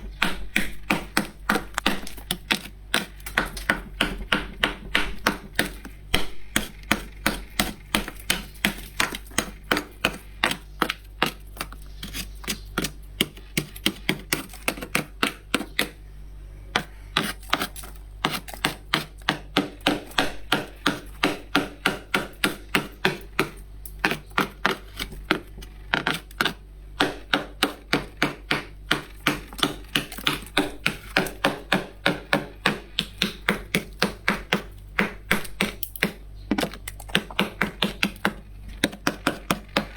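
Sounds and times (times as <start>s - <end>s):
frost crunching: 0.0s - 39.9s.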